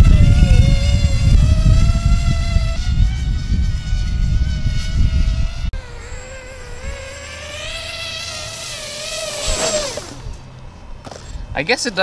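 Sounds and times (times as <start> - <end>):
wind rumbling on microphone: 0.0 - 11.6
model plane propeller whining: 0.0 - 11.9.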